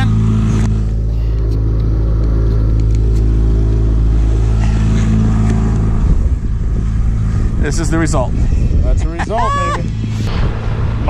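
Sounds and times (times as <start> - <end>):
outboard motor humming: 0.0 - 11.0.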